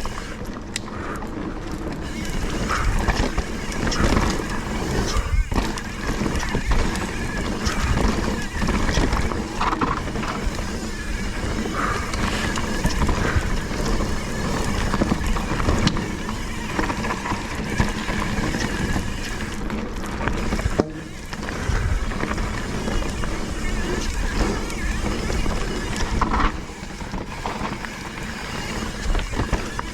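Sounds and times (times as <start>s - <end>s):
wind and riding noise: 0.0s - 29.9s.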